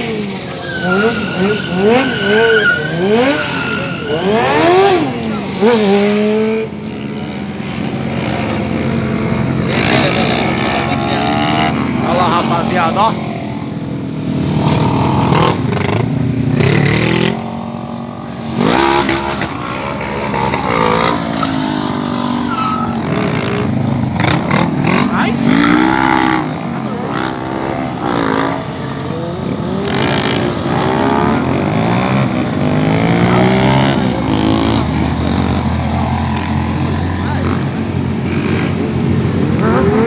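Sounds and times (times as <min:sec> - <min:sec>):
motorcycle engines revving: 0:00.0 - 0:40.0.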